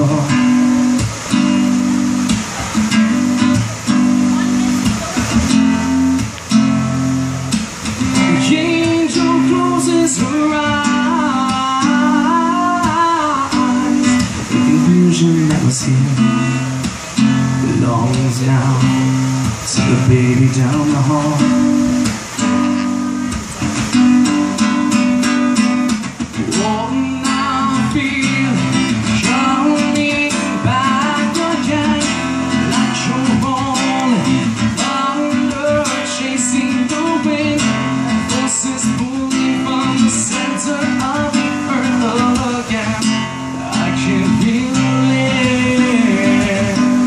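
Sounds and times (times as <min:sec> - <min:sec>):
acoustic guitar strumming: 0:00.0 - 0:47.0
bending guitar melody: 0:00.0 - 0:47.0.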